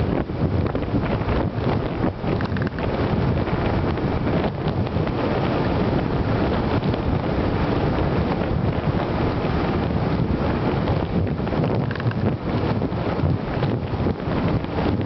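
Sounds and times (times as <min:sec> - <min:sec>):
motorcycle running noise: 0:00.0 - 0:15.0
wind buffeting microphone: 0:00.0 - 0:15.0.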